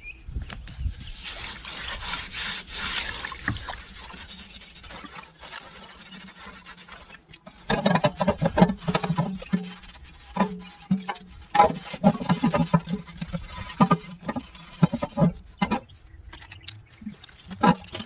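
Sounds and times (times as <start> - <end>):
pad scrubbing pot lid: 1.1 - 16.0, 17.0 - 18.0
water dripping and splashing: 1.2 - 18.0.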